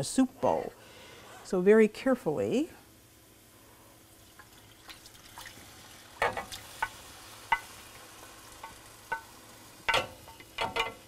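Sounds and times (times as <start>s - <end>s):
soft sizzle in pan: 0.0s - 11.0s.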